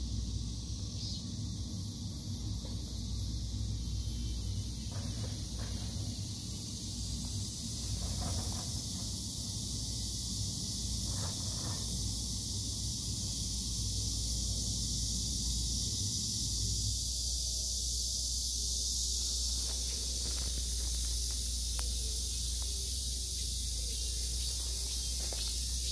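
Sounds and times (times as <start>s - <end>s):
cicadas droning: 0.0s - 25.9s.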